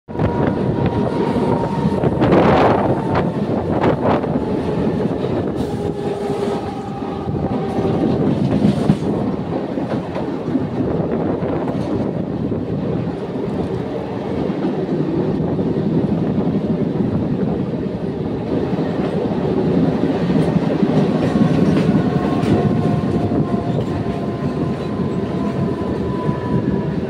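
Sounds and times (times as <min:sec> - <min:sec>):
train wheels rumbling on rails: 0:00.1 - 0:27.0.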